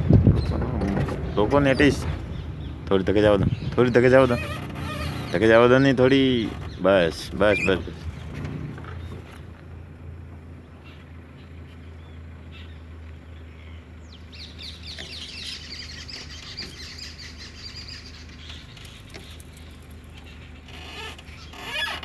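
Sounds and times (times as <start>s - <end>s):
birds chirping: 0.0s - 22.0s
vehicle engine idling: 0.0s - 22.0s.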